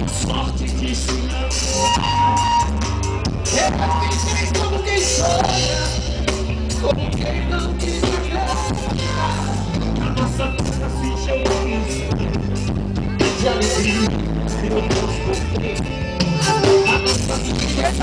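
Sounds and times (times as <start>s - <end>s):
bass line: 0.0s - 18.0s
drum kit beating: 0.0s - 18.0s
person singing: 0.0s - 18.0s.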